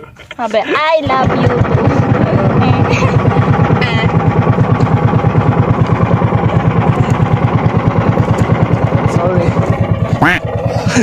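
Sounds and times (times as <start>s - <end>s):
boat engine thumping: 0.8s - 11.0s.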